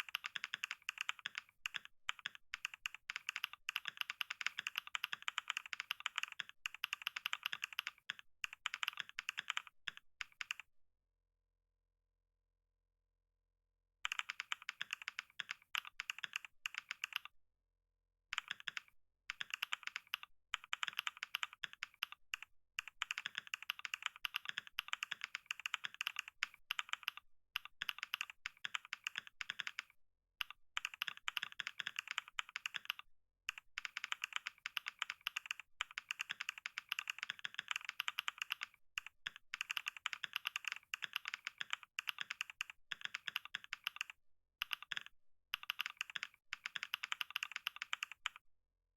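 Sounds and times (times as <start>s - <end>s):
fast typing on keyboard: 0.0s - 10.6s, 14.1s - 17.3s, 18.4s - 48.4s.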